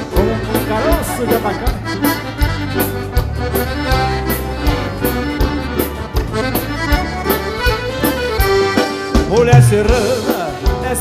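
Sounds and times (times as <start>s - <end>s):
accordion dance music: 0.0s - 11.0s.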